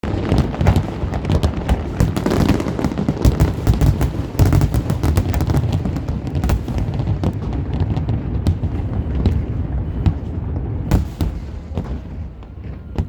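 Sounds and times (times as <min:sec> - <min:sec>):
firework bangs and crackles: 0:00.0 - 0:13.0
firework shells booming: 0:00.0 - 0:13.0.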